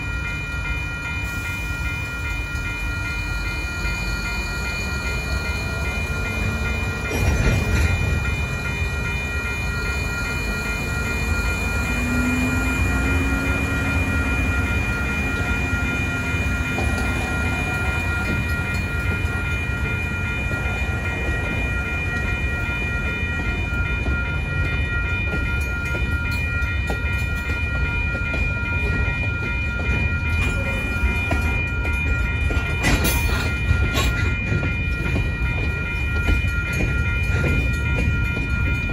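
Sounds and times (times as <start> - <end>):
electronic crossing bell ringing: 0.0 - 38.9
locomotive rumble: 0.0 - 38.9.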